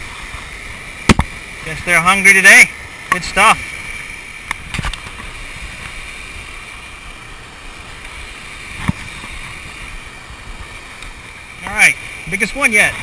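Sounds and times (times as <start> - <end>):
small waterfall rushing: 0.0 - 13.0
wind rumbling on microphone: 0.0 - 13.0.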